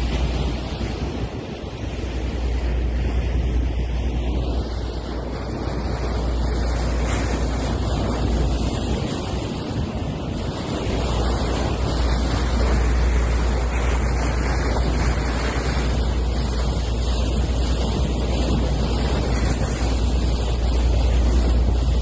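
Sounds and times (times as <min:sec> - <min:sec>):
water splashing along a hull: 0:00.0 - 0:22.0
wind buffeting the microphone: 0:00.0 - 0:22.0.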